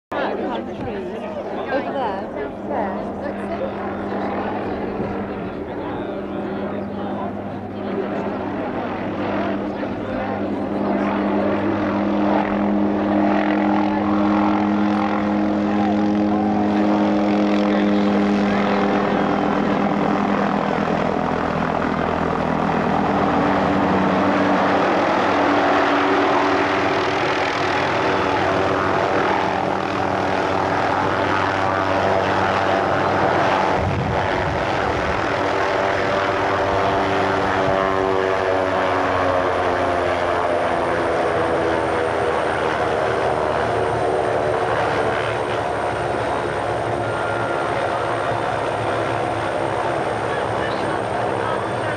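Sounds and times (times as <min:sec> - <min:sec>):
helicopter flying and landing: 0:00.1 - 0:51.9.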